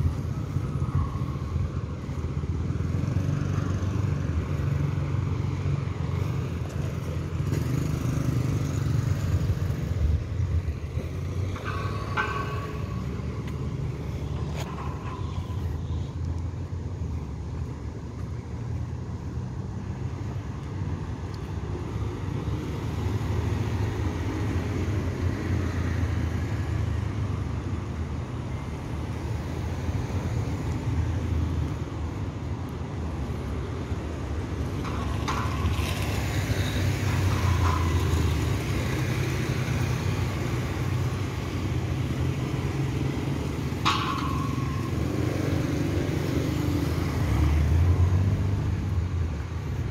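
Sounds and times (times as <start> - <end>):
car traffic passing: 0.0 - 49.9.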